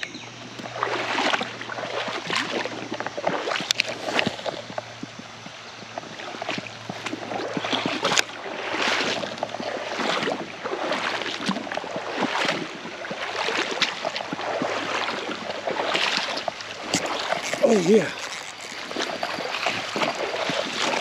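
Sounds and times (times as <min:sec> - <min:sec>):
creek water sloshing: 0:00.6 - 0:05.1, 0:05.8 - 0:21.0.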